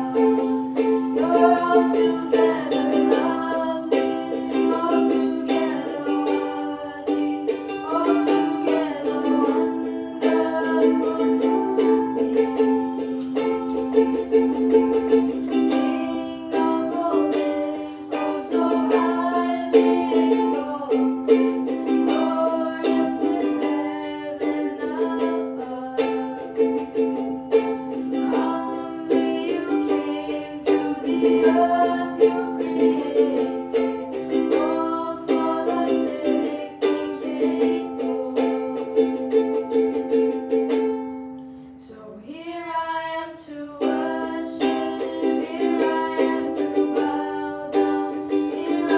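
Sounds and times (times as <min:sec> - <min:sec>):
voices singing along: 0:00.0 - 0:39.4, 0:41.8 - 0:48.9
hymn with strummed strings: 0:00.0 - 0:48.9.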